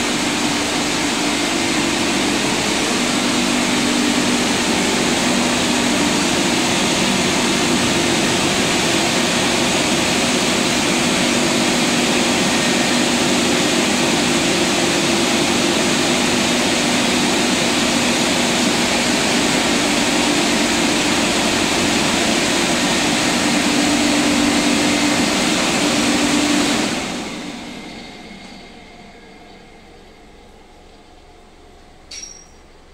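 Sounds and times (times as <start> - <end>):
car wash blowers rushing: 0.0 - 28.1.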